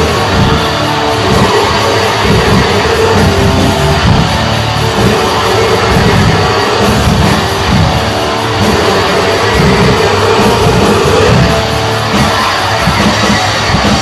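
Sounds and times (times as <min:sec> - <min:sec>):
metal band playing live: 0:00.0 - 0:14.0.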